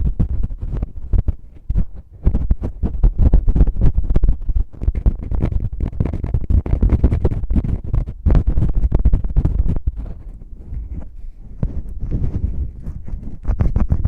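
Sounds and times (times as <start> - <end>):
fingers rubbing and tapping microphone: 0.0 - 14.0.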